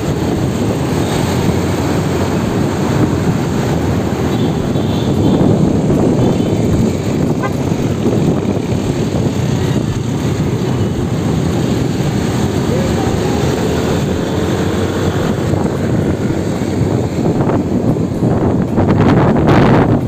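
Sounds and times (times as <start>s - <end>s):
engine noise: 0.0s - 20.0s
traffic road noise: 0.0s - 20.0s
wind rushing over microphone: 0.0s - 20.0s.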